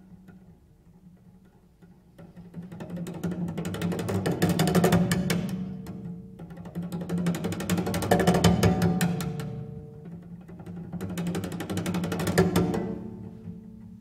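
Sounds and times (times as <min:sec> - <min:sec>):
solo cello playing: 0:00.0 - 0:14.0.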